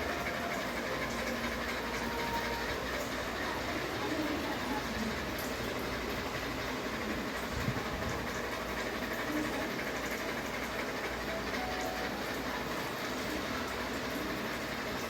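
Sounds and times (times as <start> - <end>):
ceiling fan whirring: 0.0 - 15.0.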